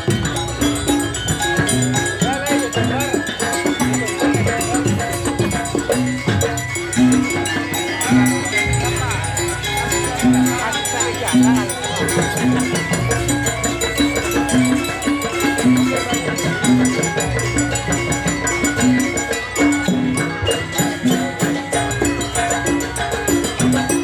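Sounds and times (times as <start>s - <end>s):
hand drum rhythms: 0.0s - 24.0s
ringing metallic gamelan notes: 0.0s - 24.0s.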